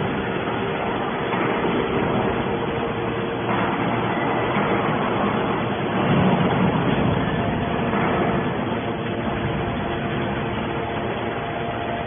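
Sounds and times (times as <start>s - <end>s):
hydraulic baler humming: 0.0s - 12.0s.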